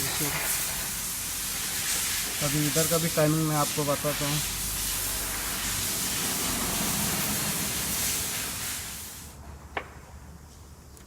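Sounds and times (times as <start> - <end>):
steady hiss: 0.0 - 9.4.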